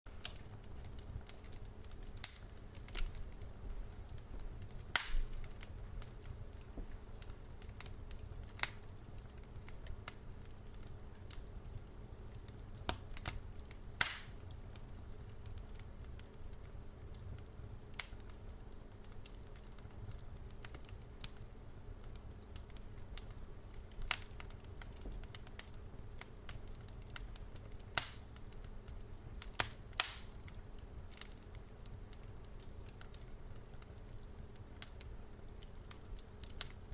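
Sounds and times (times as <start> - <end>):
burning logs popping and snapping: 0.1 - 36.9
low rumble of flames: 0.1 - 36.9.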